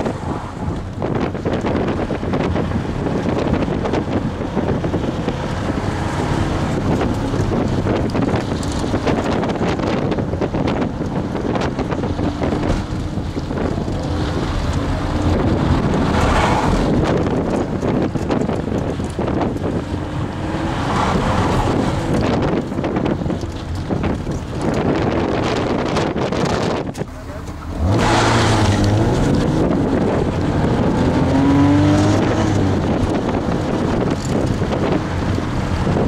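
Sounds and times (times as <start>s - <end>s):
car engine under load: 0.0s - 36.0s
tyre noise on wet road: 0.0s - 36.0s.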